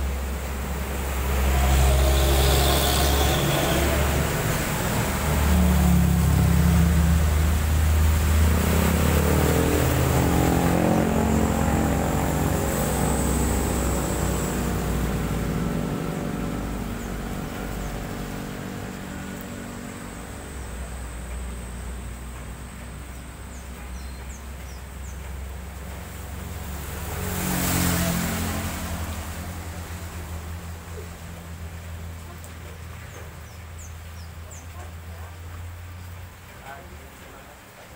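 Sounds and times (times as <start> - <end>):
bus driving past: 0.0 - 32.4
motorcycles passing on wet road: 0.0 - 37.9.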